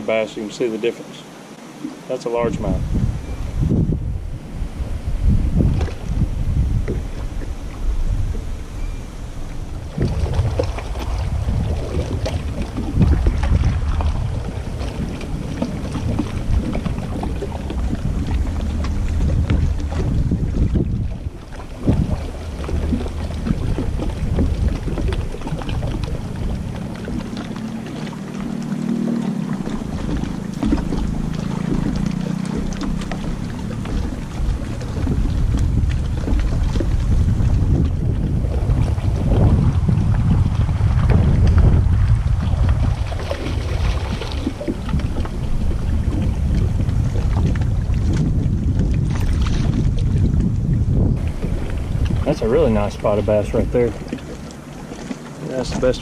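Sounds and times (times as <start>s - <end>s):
waves lapping against boat hull: 0.0s - 56.0s
wind buffeting microphone: 1.8s - 56.0s
fish splashing: 4.6s - 50.4s, 51.2s - 56.0s.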